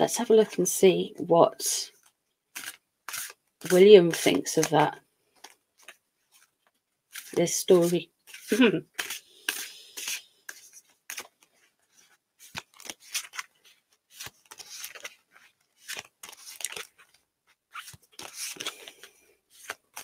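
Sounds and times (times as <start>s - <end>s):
cards being shuffled: 2.0s - 20.0s.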